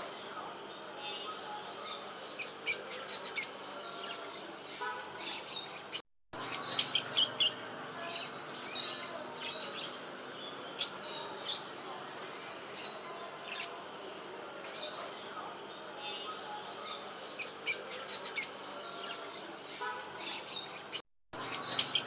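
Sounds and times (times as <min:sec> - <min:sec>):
cage birds chirping: 0:00.1 - 0:22.0.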